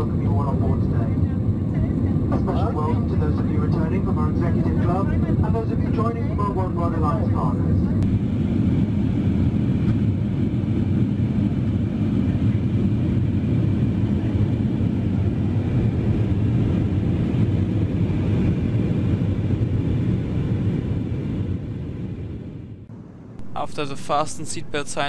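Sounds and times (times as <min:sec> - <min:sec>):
airliner cabin drone: 0:00.0 - 0:25.0.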